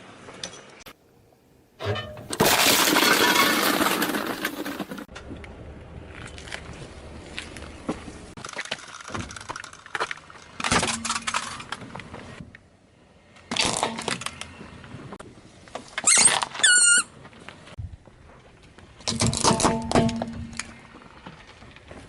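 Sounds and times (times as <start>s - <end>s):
objects crunching under tyres: 1.8s - 22.0s.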